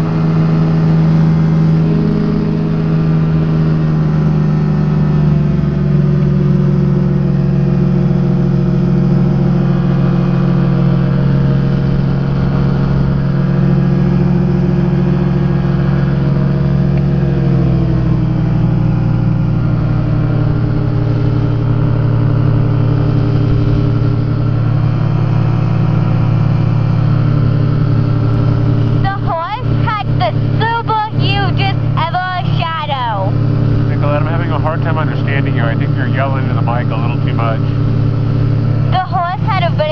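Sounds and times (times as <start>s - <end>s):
ultralight engine and propeller: 0.0s - 39.9s.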